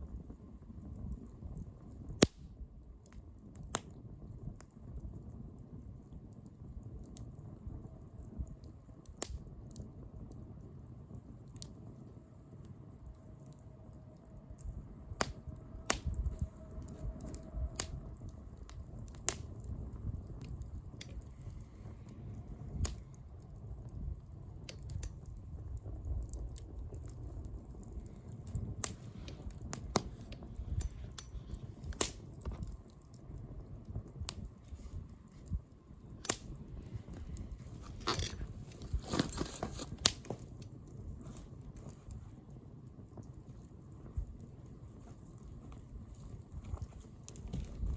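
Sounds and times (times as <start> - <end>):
low rumble of flame: 0.0 - 47.9
wood fire crackling and popping: 0.0 - 47.9.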